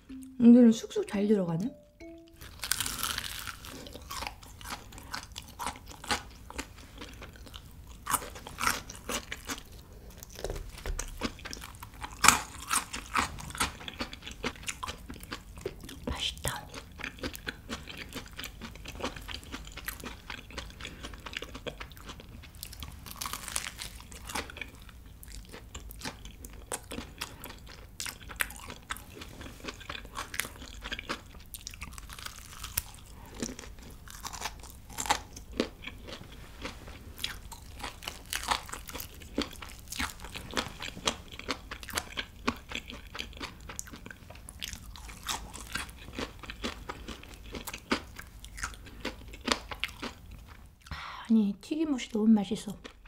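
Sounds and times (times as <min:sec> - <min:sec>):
crunching fried chicken: 0:02.4 - 0:16.1, 0:16.7 - 0:50.6.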